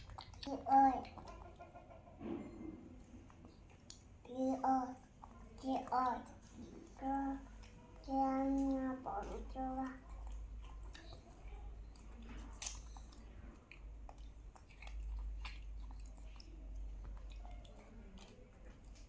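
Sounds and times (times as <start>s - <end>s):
wet chewing smacks: 0.0s - 2.2s, 3.0s - 4.3s, 4.9s - 19.0s.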